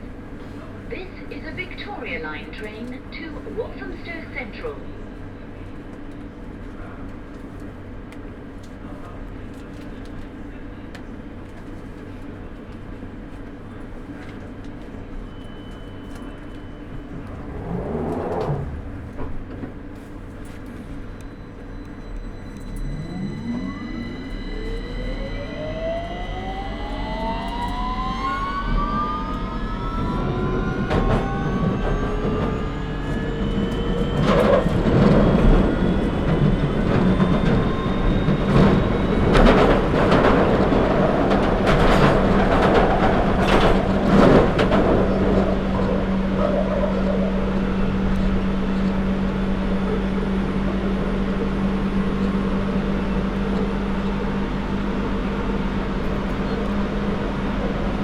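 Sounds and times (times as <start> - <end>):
train motor hum and whine: 0.0 - 6.9, 14.2 - 58.0
wheel-on-rail rumble: 0.0 - 58.0.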